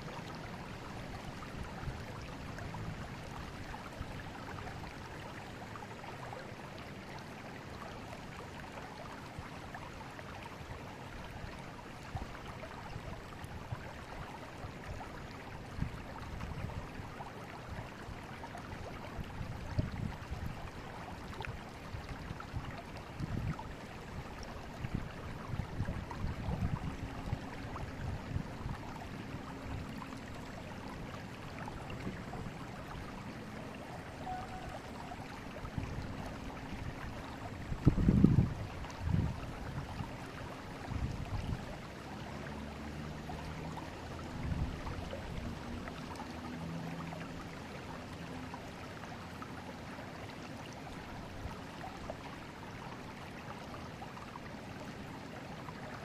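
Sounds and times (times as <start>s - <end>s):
deep surges of water: 0.0s - 56.0s
river water rushing: 0.0s - 56.0s.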